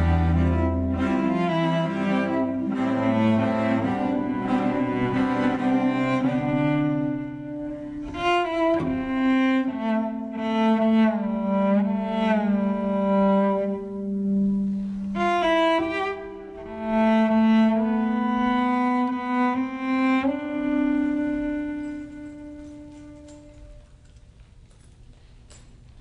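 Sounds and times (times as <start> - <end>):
slow instrumental music: 0.0 - 25.7.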